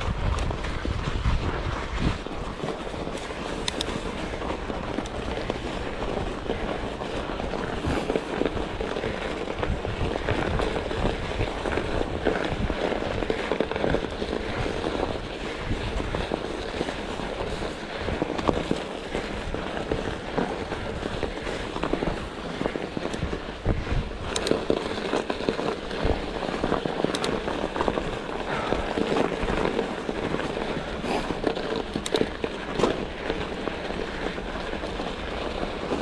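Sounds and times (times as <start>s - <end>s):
bike knocks and rattles: 0.0s - 36.0s
bike tyres crunching on trail: 0.0s - 36.0s.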